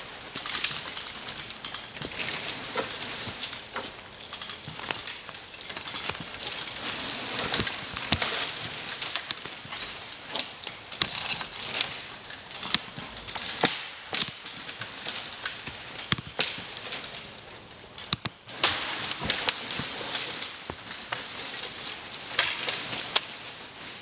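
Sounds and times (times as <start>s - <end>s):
tree wood cracking and snapping: 0.0s - 24.0s.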